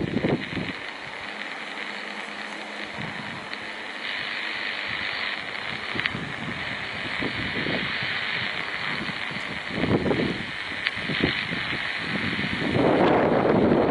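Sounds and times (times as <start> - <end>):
wind buffeting microphone: 0.0 - 1.3, 2.8 - 13.9
distant jet engines roaring: 0.0 - 13.9.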